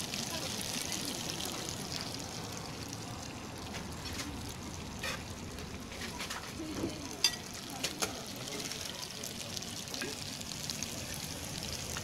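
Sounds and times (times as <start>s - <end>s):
food sizzling on a hot plate: 0.0s - 12.0s.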